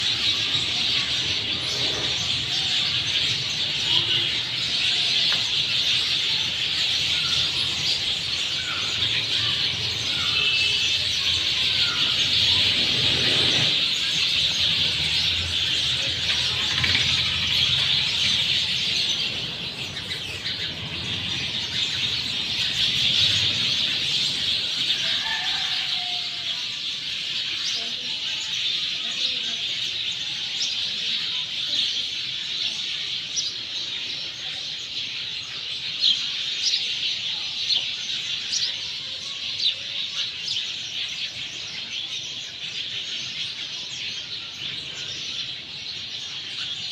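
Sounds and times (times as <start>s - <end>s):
sparrows chirping: 0.0s - 46.9s.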